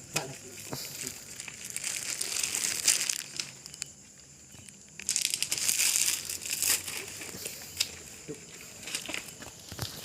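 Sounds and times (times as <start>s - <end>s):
rustling crinkling noise: 0.2s - 10.0s.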